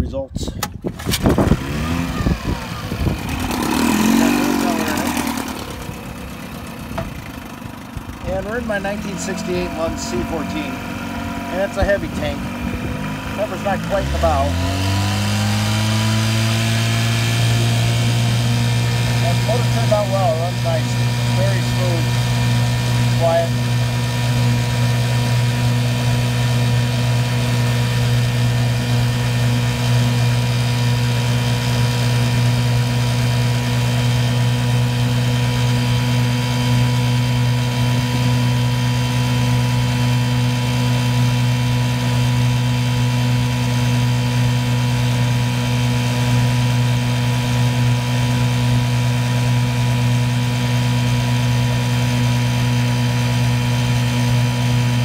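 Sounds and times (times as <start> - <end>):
outboard motor running: 0.1 - 55.0.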